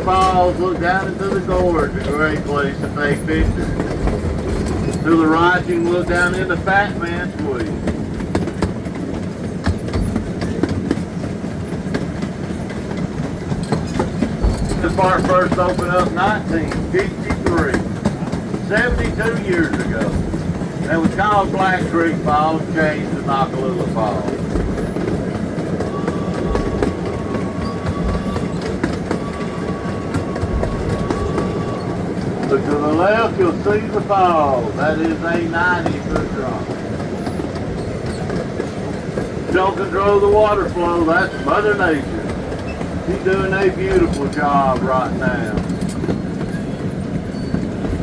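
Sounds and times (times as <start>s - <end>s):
train rumbling: 0.0s - 48.0s
wheels clicking over rail joints: 0.0s - 48.0s.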